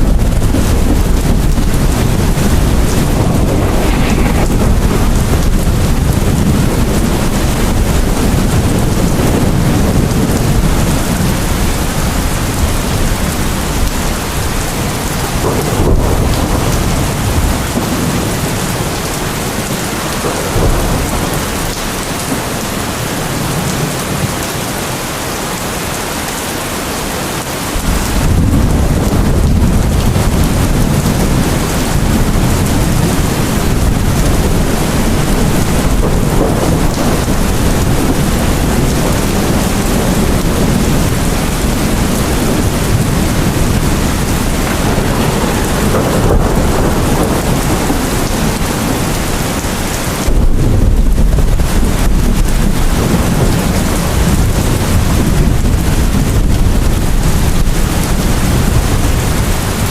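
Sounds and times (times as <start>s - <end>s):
deep rolling thunder: 0.0s - 24.7s, 27.7s - 59.9s
steady rain: 0.0s - 59.9s.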